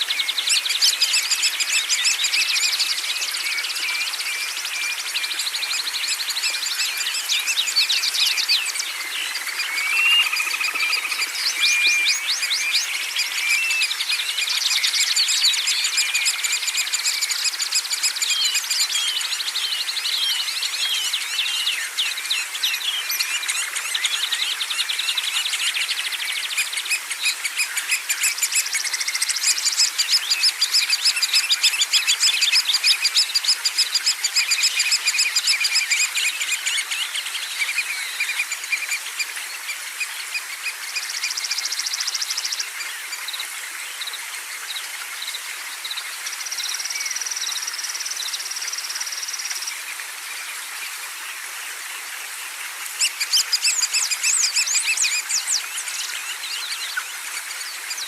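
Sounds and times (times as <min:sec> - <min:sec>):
faint steady hiss: 0:00.0 - 0:58.0
songbirds chirping and trilling: 0:00.0 - 0:58.0.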